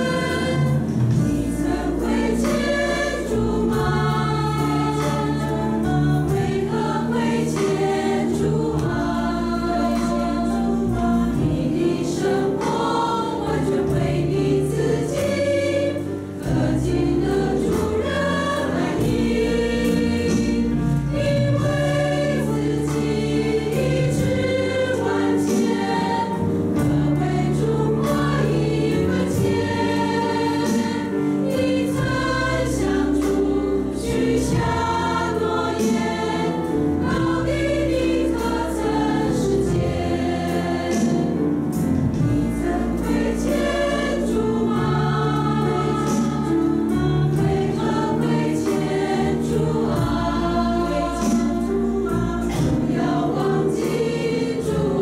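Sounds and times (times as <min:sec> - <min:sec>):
low accompanying notes: 0:00.0 - 0:55.0
women's choir singing a hymn: 0:00.0 - 0:55.0.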